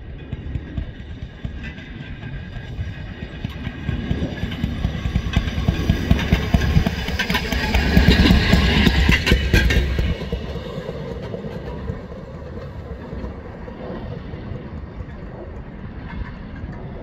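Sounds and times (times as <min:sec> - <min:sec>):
rail motorcar engine rumble: 0:00.0 - 0:17.0
wheels clicking on rails: 0:00.0 - 0:17.0.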